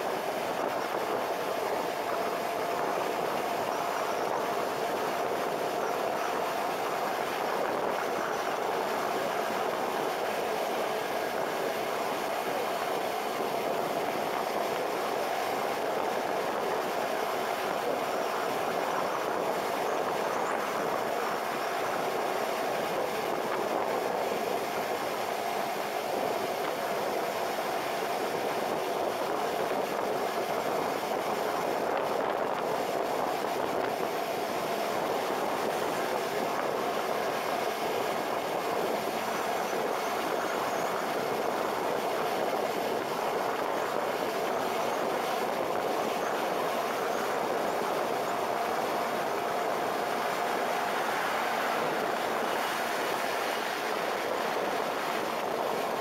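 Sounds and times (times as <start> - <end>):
wind rush: 0.0 - 56.0.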